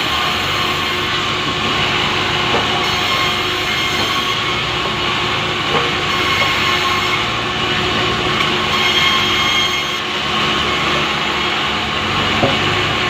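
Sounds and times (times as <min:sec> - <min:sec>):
power saw cutting log: 0:00.0 - 0:13.0.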